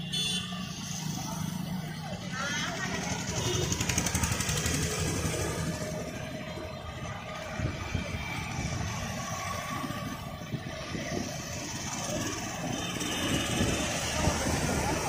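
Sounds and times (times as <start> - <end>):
hum of mixed engines: 0.0 - 15.0
motorcycle and scooter engines passing: 0.0 - 15.0.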